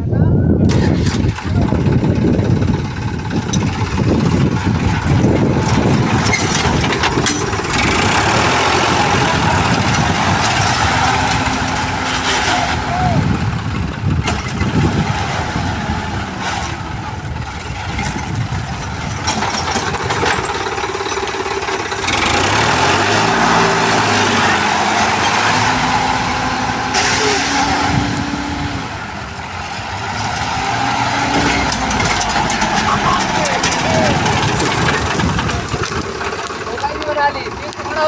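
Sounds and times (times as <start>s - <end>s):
tractor diesel engine revving: 0.4s - 38.0s.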